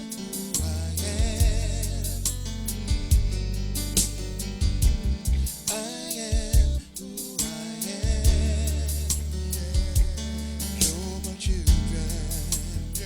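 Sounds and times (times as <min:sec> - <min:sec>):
drum beat: 0:00.0 - 0:02.0, 0:02.9 - 0:13.0
person singing with vibrato: 0:00.0 - 0:03.4, 0:05.3 - 0:13.0
bass: 0:00.0 - 0:05.6, 0:06.6 - 0:06.8, 0:08.1 - 0:13.0.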